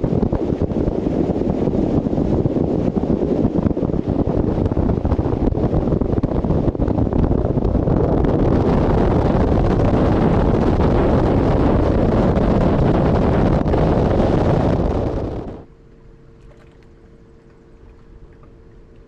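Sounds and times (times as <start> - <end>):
faint steady hum: 0.0 - 19.0
hull rushing through water: 0.0 - 19.0
wind buffeting microphone: 0.0 - 19.0.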